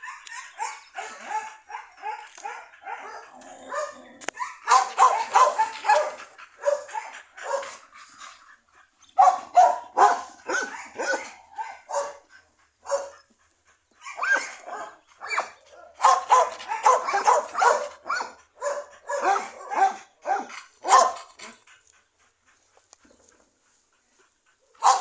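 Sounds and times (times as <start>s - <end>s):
dogs barking and yipping: 0.0s - 25.0s.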